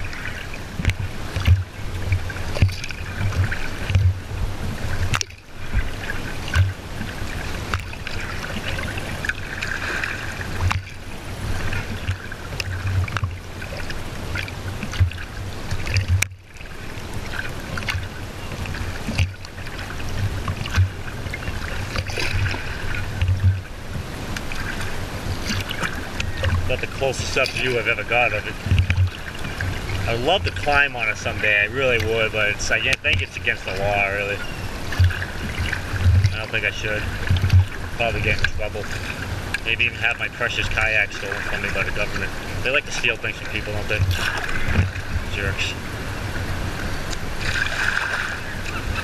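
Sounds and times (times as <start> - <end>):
water lapping against kayak hull: 0.0 - 49.0.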